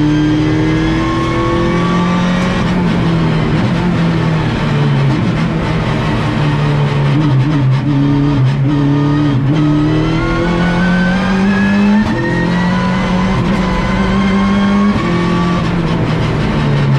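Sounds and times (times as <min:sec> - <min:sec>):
race car engine revving: 0:00.0 - 0:16.9.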